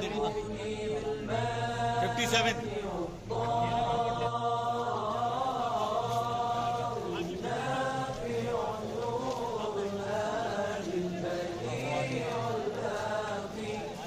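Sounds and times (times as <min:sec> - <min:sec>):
man chanting recitation: 0:00.0 - 0:14.0.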